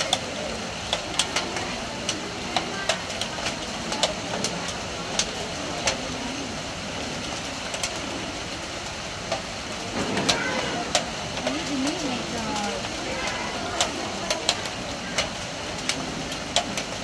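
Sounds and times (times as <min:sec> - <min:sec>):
heavy rain on a metal roof: 0:00.0 - 0:17.0.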